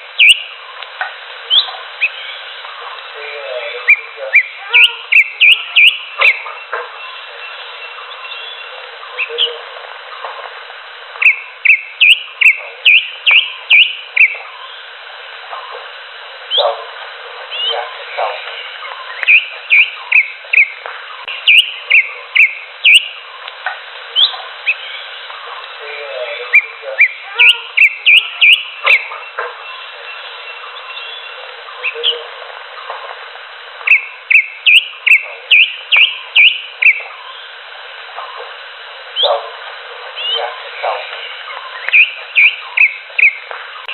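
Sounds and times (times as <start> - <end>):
steady background hiss: 0.0 - 43.9.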